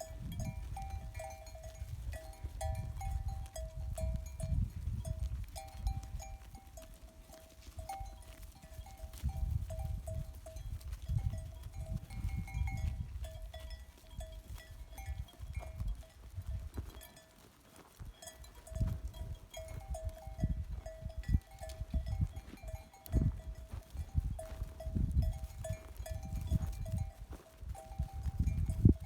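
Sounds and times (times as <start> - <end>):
livestock bells clinking: 0.0 - 29.0.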